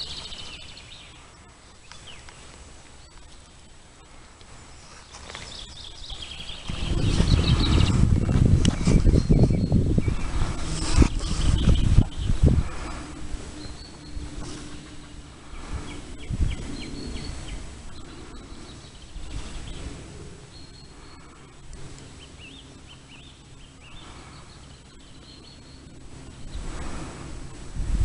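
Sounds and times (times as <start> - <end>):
birds chirping: 0.0 - 27.8
low rumbling noise: 0.0 - 28.0.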